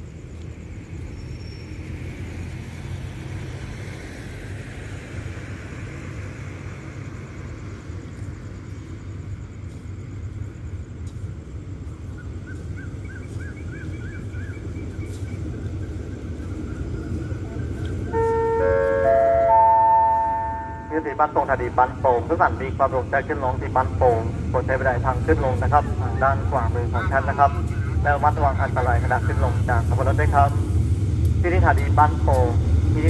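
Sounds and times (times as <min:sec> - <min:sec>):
diesel train rumble: 0:00.0 - 0:33.0.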